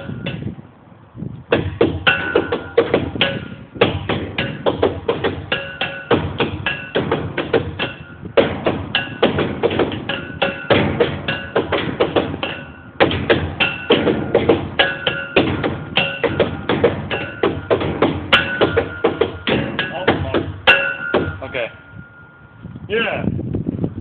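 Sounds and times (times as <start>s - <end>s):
pitched percussion strikes: 1.5s - 22.6s.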